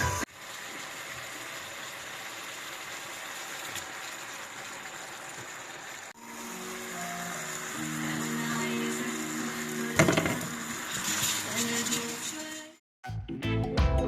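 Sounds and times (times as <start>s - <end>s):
food sizzling in a wok: 0.0s - 12.8s.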